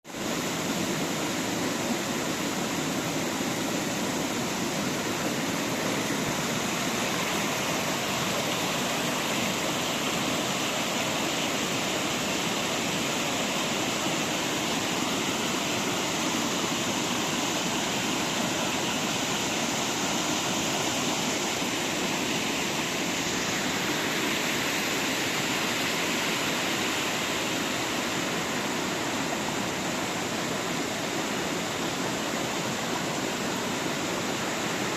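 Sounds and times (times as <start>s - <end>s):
waterfall roar: 0.1s - 34.9s.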